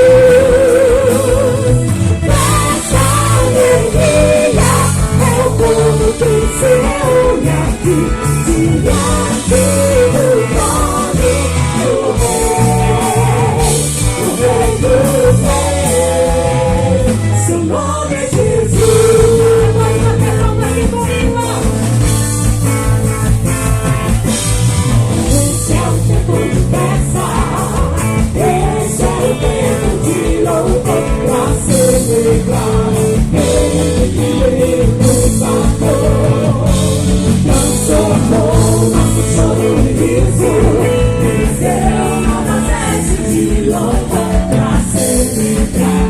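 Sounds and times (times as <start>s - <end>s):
person singing gospel: 0.0s - 22.2s, 25.3s - 46.0s
drum kit: 0.0s - 46.0s
guitar: 0.0s - 46.0s.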